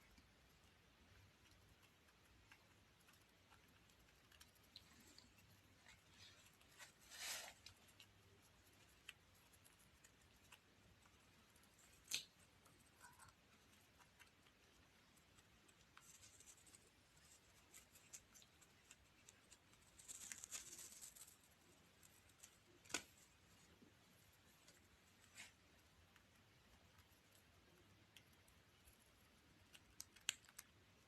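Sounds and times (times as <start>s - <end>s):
small ticks: 0.0s - 6.8s, 7.6s - 23.2s, 25.4s - 31.0s
parrot preening feathers: 2.6s - 27.5s.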